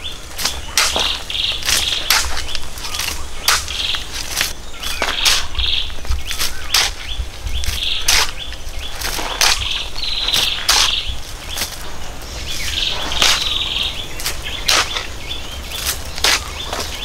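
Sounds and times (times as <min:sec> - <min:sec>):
dirt and pebbles scattering: 0:00.0 - 0:17.0
hoe chopping stony soil: 0:00.0 - 0:17.0.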